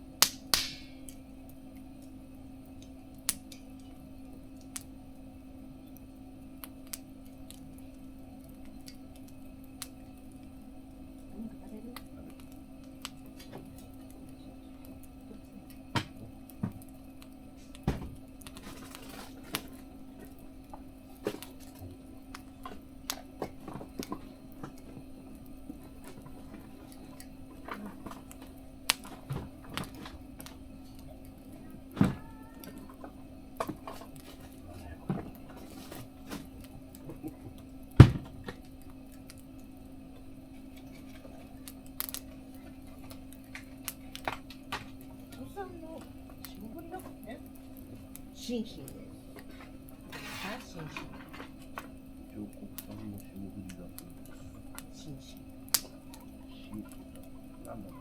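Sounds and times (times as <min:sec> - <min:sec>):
steady low hum: 0:00.0 - 0:58.0
wood fire popping and cracking: 0:00.0 - 0:58.0.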